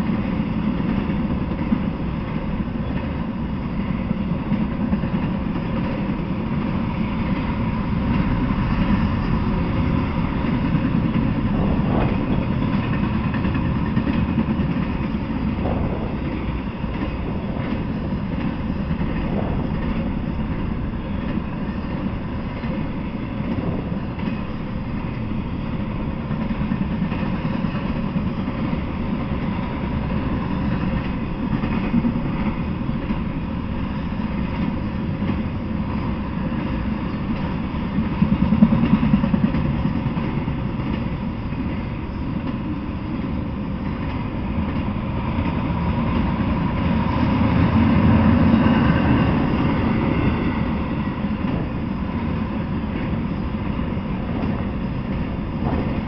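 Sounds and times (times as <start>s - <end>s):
freight train rumbling past: 0.0s - 56.0s
train clatter: 0.0s - 56.0s.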